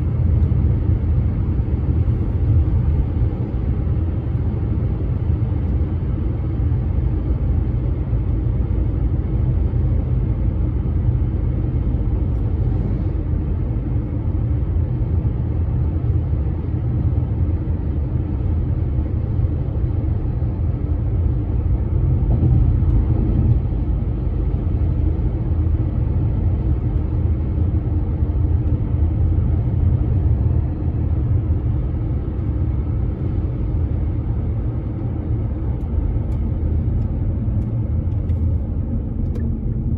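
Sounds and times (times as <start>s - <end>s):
deep rumble of bridge: 0.0s - 39.9s.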